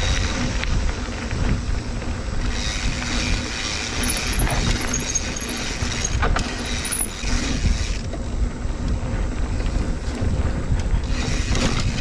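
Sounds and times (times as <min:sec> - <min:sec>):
bike tyres rolling on dirt: 0:00.0 - 0:12.0
wind on microphone: 0:00.0 - 0:12.0.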